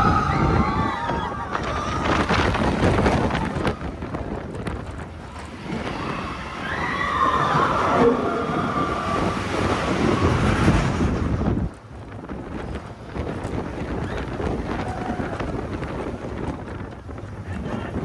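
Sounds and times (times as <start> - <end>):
roller coaster train rattling on track: 0.0 - 18.0
wind rushing over microphone: 0.0 - 18.0.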